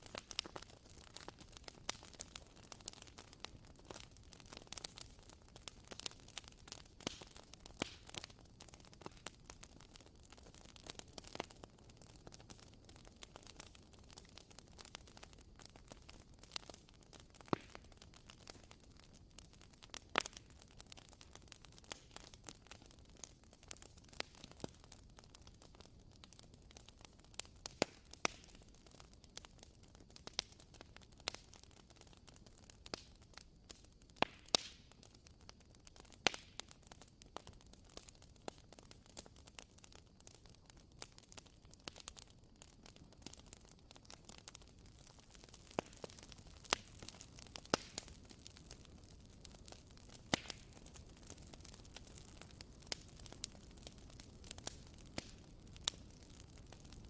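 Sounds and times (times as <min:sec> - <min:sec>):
candle crackling: 0:00.0 - 0:32.2, 0:32.8 - 0:57.0.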